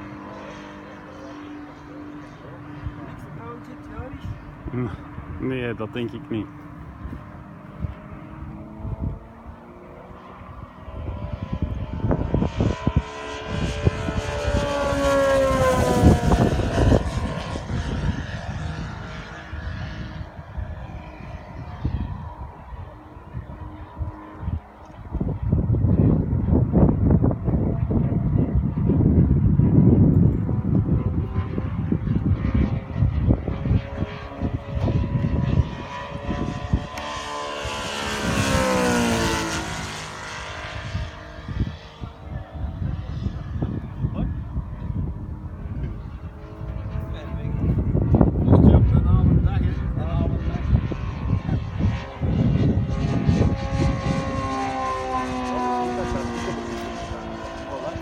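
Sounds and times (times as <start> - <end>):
model aircraft engines flying past: 0.0 - 58.0.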